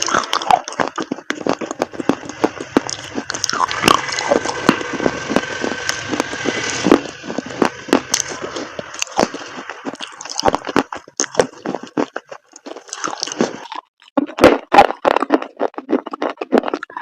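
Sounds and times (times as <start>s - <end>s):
chalk paste crunching: 0.0s - 17.0s.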